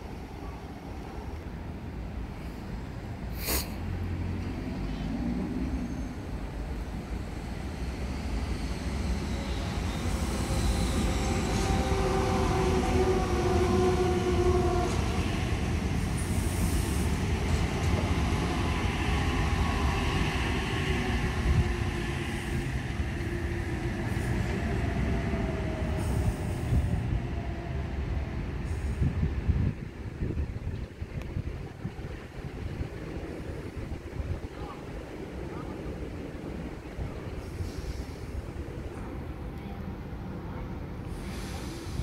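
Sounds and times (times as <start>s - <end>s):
train wheels rumbling on rail: 1.0s - 42.0s.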